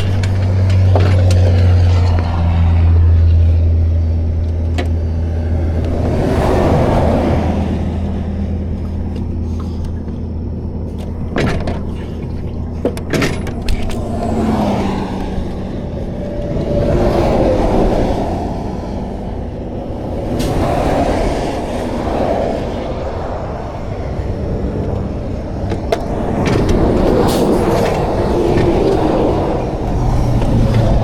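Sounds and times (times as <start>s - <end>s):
engine running: 0.0s - 31.0s
highway traffic passing: 0.0s - 31.0s.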